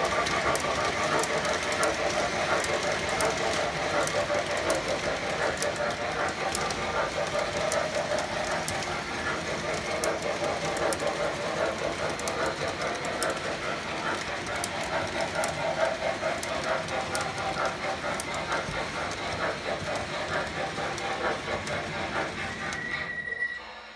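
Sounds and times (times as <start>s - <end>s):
sharp clicks: 0.0s - 23.0s
model train wheels rumbling: 0.0s - 23.4s.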